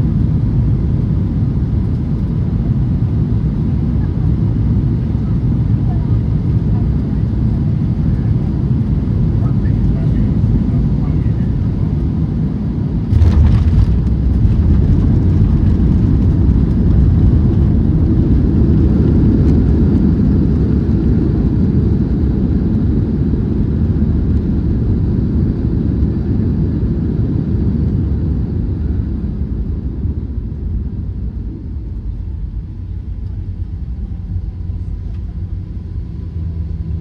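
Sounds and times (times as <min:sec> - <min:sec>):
jet engine and runway rumble: 0:00.0 - 0:37.0.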